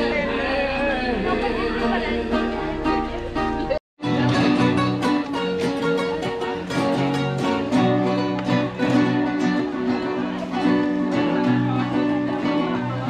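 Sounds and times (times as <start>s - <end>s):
two acoustic guitars playing: 0.0s - 13.0s.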